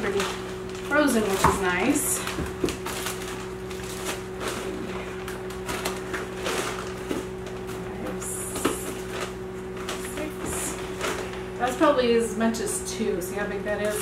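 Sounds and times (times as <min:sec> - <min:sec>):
plastic bags crinkling: 0:00.0 - 0:12.0
microwave oven humming: 0:00.0 - 0:14.0.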